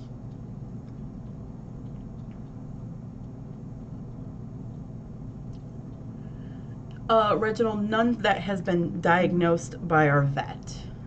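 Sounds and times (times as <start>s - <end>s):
low rumble of room noise: 0.0s - 11.0s.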